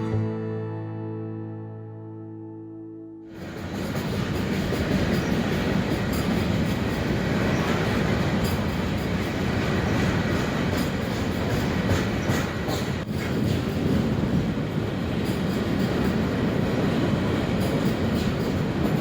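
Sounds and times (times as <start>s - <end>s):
train wheels rumbling on rails: 3.3s - 19.0s.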